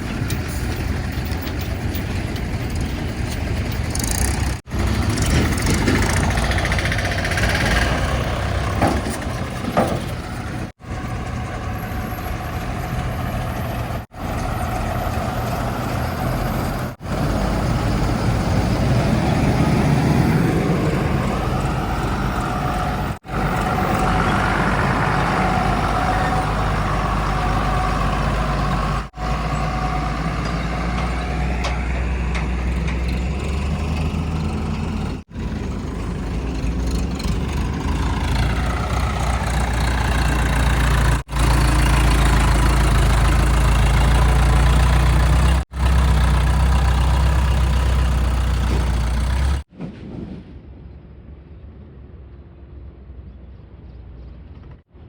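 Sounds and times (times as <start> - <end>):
heavy diesel engines running: 0.0 - 49.7.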